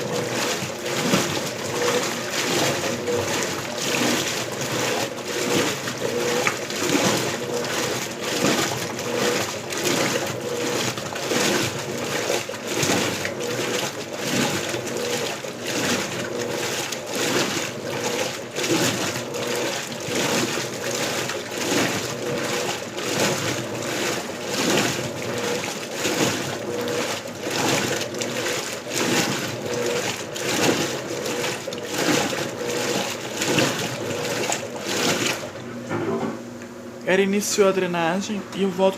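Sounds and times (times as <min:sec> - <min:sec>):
washing machine water sloshing: 0:00.0 - 0:38.9.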